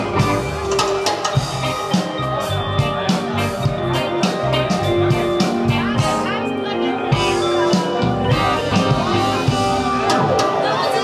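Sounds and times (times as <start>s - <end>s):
drum and cymbal hits: 0.0s - 6.4s, 7.1s - 11.0s
bass guitar: 0.0s - 11.0s
electric guitar: 0.0s - 11.0s.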